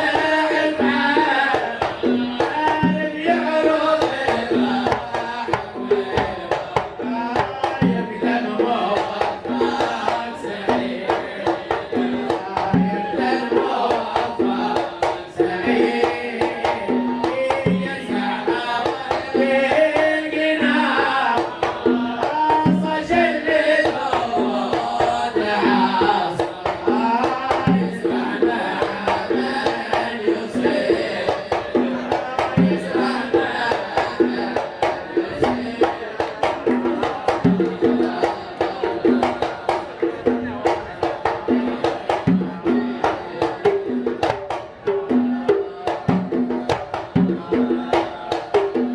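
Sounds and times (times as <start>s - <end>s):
hand drums: 0.0s - 48.9s.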